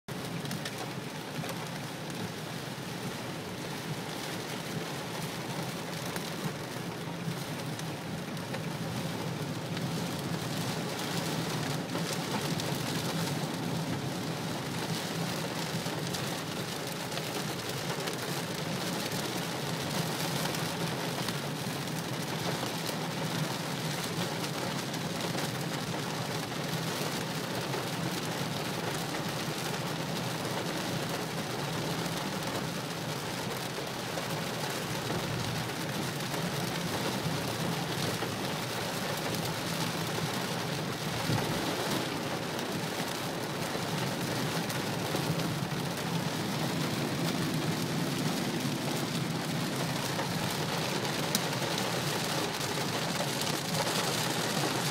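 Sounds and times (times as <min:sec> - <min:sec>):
heavy rain on car roof: 0:00.1 - 0:54.9.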